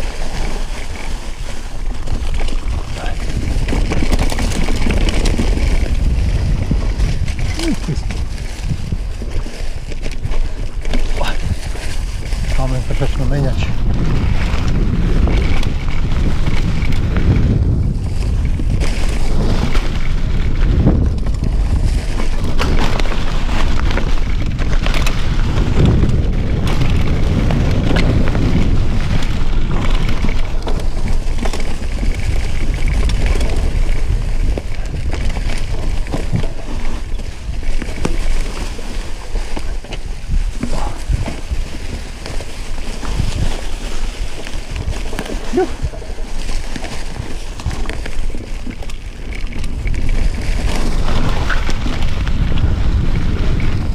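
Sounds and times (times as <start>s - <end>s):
bike knocks and rattles: 0.0s - 53.9s
wind buffeting microphone: 0.0s - 53.9s.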